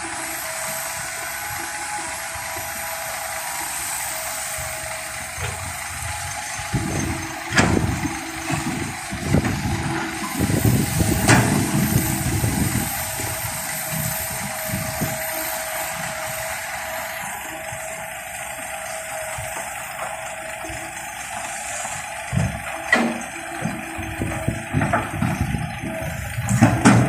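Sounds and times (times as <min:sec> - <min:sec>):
excavator engine rumbling: 0:00.0 - 0:27.0.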